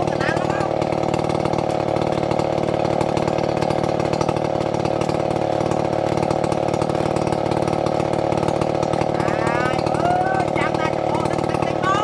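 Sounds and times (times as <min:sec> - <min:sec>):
chainsaw running steadily: 0:00.0 - 0:12.0.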